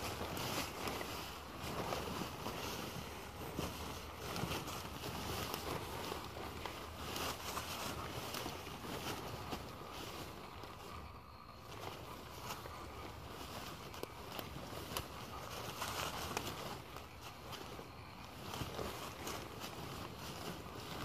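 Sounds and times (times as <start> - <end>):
footsteps in dry leaves: 0.0 - 21.0
steady low hum: 0.0 - 21.0.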